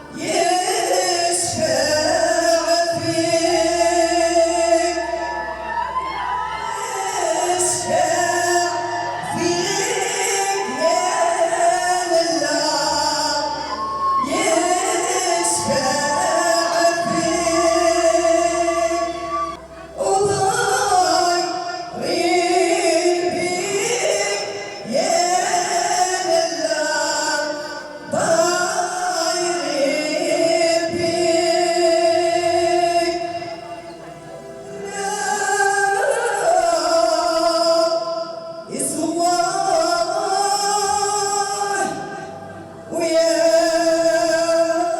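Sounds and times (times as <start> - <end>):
man and woman singing with music: 0.0 - 44.9.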